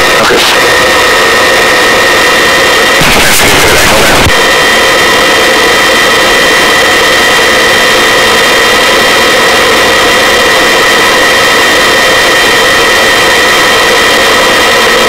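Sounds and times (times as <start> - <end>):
engine and air noise: 0.0 - 15.0
helicopter turbine whine: 0.0 - 15.0.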